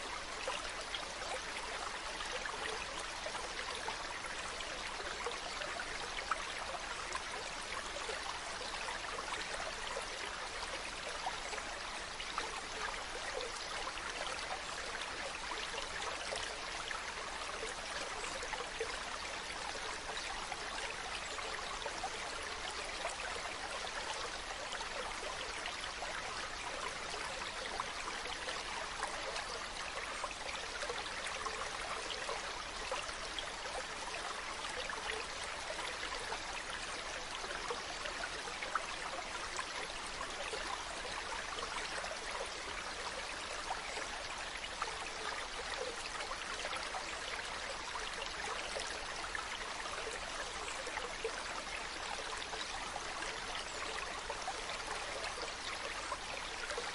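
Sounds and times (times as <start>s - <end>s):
water trickling: 0.0s - 56.9s.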